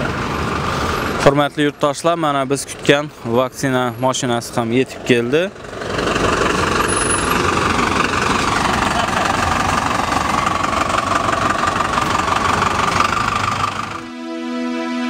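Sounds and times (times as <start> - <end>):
truck engine running: 0.0 - 14.1.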